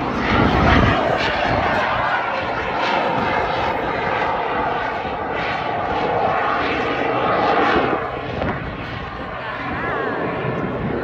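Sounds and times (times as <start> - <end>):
propeller plane engine: 0.0 - 11.0.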